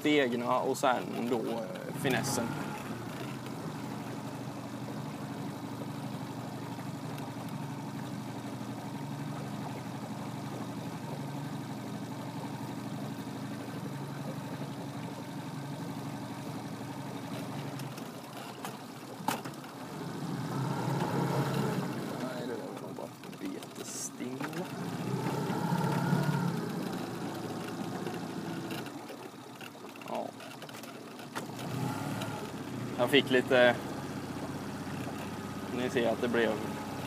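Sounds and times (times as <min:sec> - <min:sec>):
boat motor running: 0:00.0 - 0:37.0.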